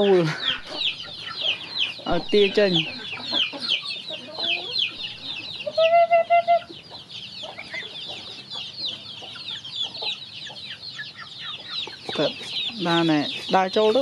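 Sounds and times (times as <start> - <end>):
chicks and ducklings peeping: 0.0 - 14.0.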